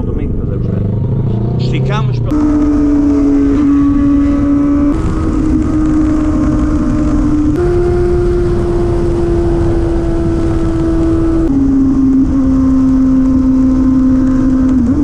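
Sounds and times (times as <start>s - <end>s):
motorcycle engine running: 0.0s - 15.0s
wind rush: 2.3s - 15.0s.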